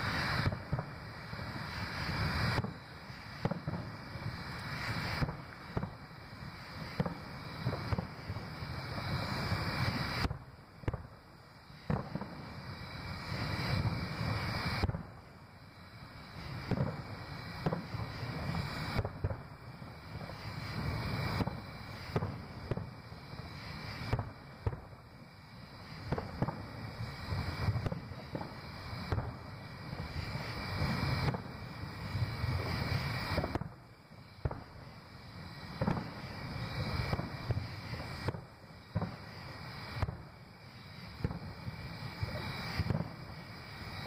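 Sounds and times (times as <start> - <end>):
distant firework shells bursting: 0.0 - 11.2, 11.8 - 15.1, 16.4 - 19.5, 20.1 - 25.0, 26.0 - 35.0, 35.6 - 40.3, 40.9 - 44.0.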